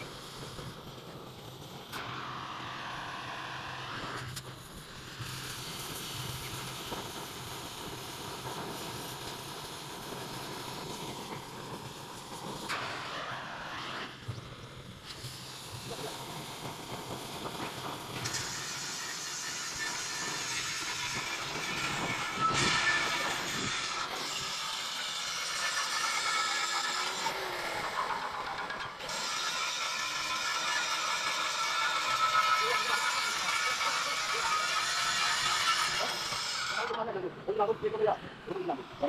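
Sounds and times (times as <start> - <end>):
machinery humming and hissing: 0.0 - 39.0.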